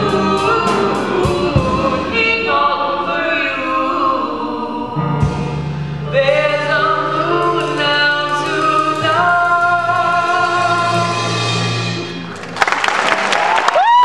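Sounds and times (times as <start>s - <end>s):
man and woman singing duet: 0.0s - 11.5s
band accompaniment: 0.0s - 13.4s.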